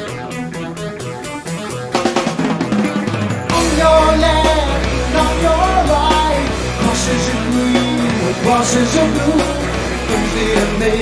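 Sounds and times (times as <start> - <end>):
gliding lead melody: 0.0 - 11.0
rock band playing live: 0.0 - 11.0.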